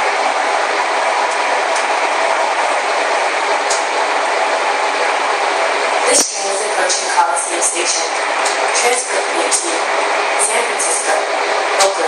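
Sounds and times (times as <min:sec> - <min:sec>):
people-mover car rolling and whirring: 0:00.0 - 0:12.0.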